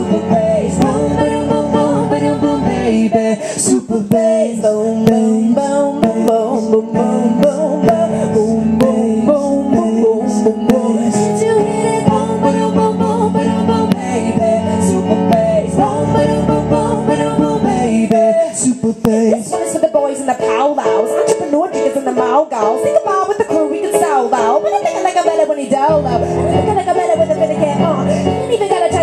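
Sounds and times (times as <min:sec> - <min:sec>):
electric keyboard with steady beat: 0:00.0 - 0:29.0
woman singing into a microphone: 0:00.0 - 0:29.0.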